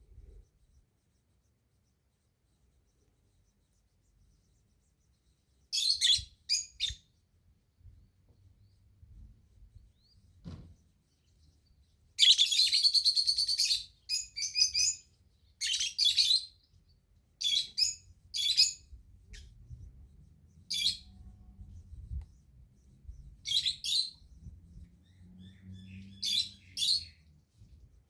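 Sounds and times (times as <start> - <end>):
bird chirping: 2.7 - 7.3, 9.5 - 28.0.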